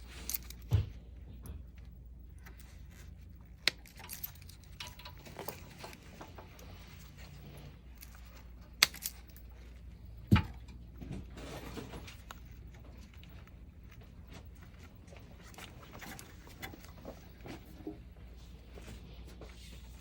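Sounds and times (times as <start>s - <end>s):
tools and wires rattling: 0.0s - 19.0s
low steady hum: 0.0s - 20.0s.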